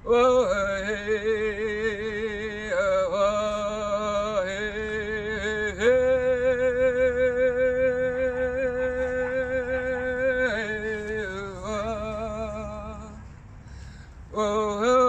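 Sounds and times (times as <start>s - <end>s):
woman singing wordless tones: 0.0s - 13.4s.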